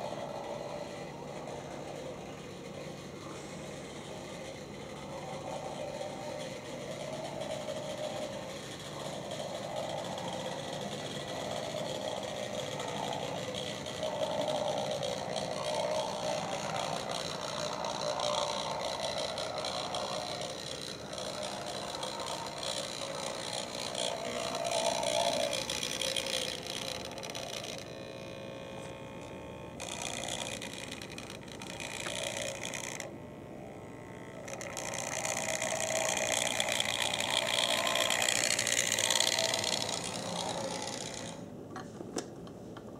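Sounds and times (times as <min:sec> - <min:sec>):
model train motors whirring: 0:00.0 - 0:41.8.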